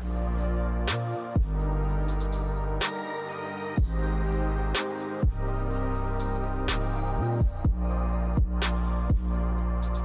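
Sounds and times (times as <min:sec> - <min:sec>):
bass and chord music: 0:00.0 - 0:10.0.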